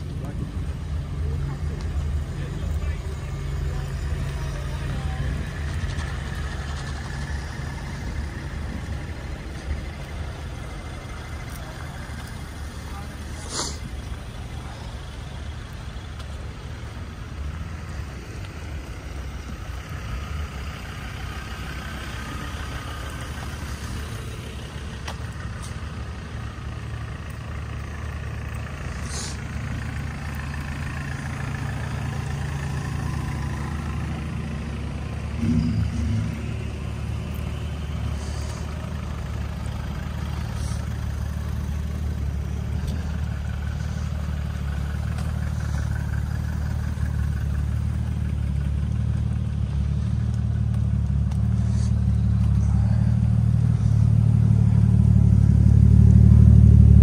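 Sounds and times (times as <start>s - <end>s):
vehicle engines idling: 0.0s - 57.0s.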